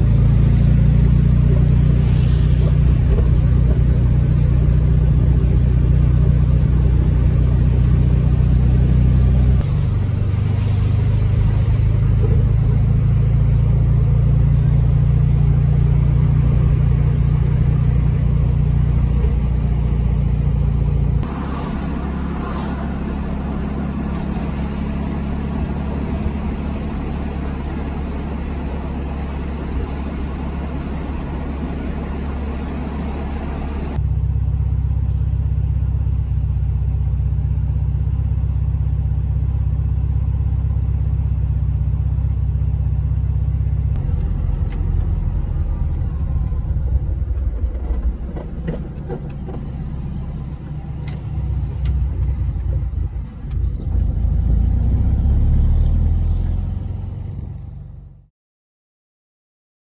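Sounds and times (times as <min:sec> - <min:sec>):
car engine running: 0:00.0 - 0:58.3
road noise: 0:00.0 - 0:58.3.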